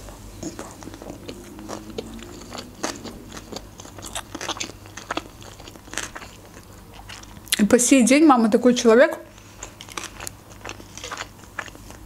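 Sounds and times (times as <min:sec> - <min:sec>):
mouth chewing crunchy food: 0:00.0 - 0:07.7, 0:09.3 - 0:12.0.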